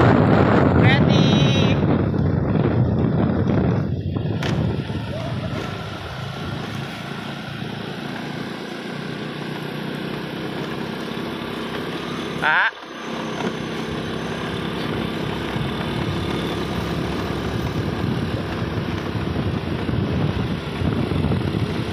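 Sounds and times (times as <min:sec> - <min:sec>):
scooter engine running: 0:00.0 - 0:21.9.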